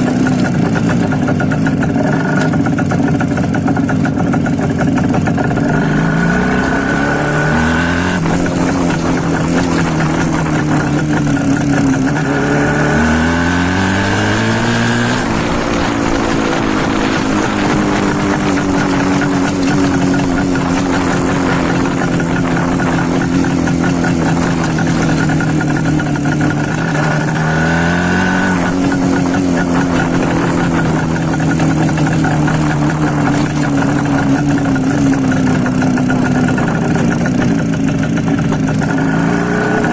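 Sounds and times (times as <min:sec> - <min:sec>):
two-stroke engine revving loudly: 0:00.0 - 0:39.9.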